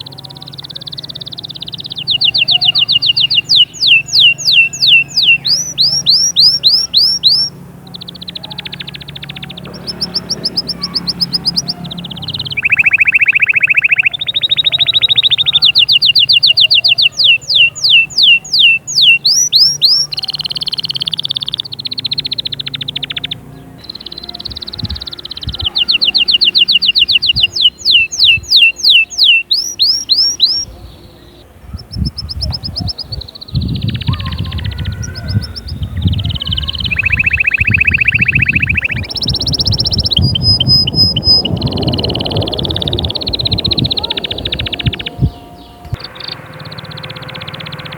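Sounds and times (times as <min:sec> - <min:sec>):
canary singing: 0:00.0 - 0:47.9.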